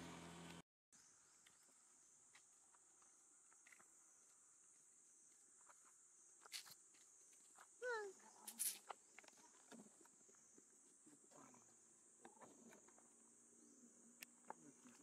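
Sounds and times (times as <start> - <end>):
high-pitched insect drone: 1.0 - 15.0.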